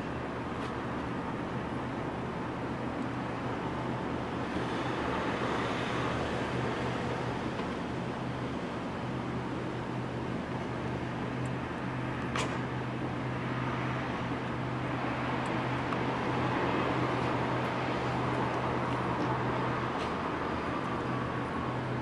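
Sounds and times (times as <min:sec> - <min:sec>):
constant low hum: 0:00.0 - 0:22.0
passing cars: 0:00.0 - 0:22.0.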